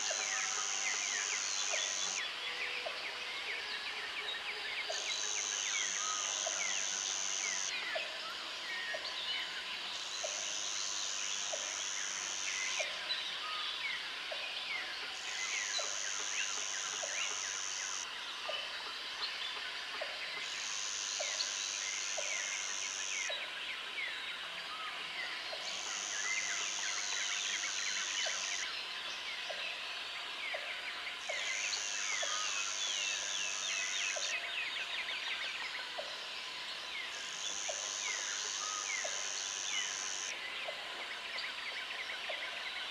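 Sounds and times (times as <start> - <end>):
high insect drone: 0.0 - 4.0, 4.7 - 14.1, 14.7 - 23.7, 25.2 - 30.1, 31.2 - 40.5.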